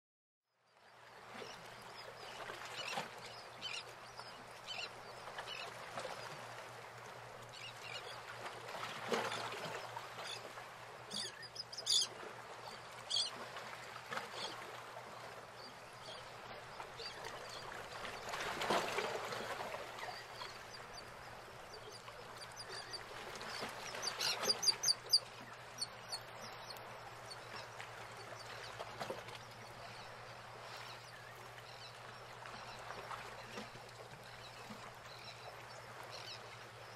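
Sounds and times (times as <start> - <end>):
water birds chattering calls: 0.8 - 36.9.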